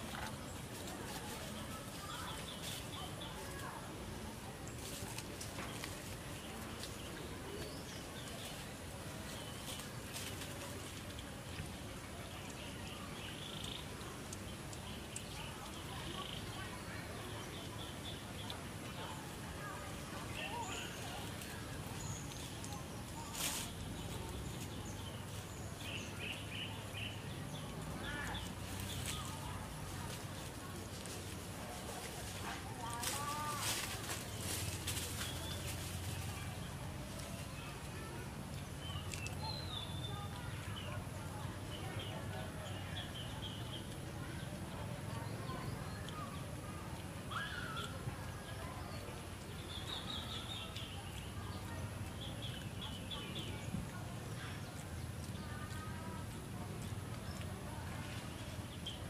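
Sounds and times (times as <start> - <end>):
birds chirping: 0.0 - 59.0
outdoor background noise: 0.0 - 59.0.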